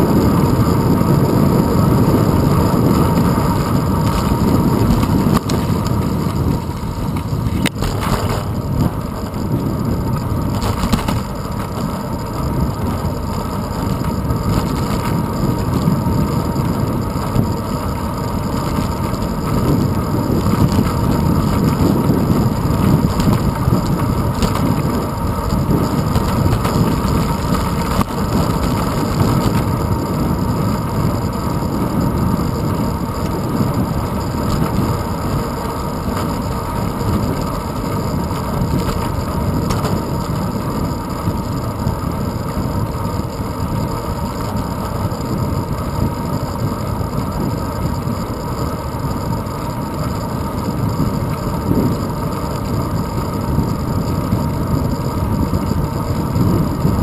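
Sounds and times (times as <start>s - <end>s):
bicycle road vibration rumble: 0.0s - 57.0s
wind buffeting camera: 0.0s - 57.0s.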